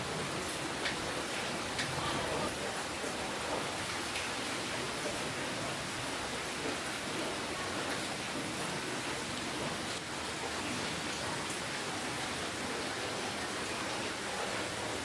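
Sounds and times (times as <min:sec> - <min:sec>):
rain hissing: 0:00.0 - 0:15.0
raindrops pattering: 0:00.0 - 0:15.0.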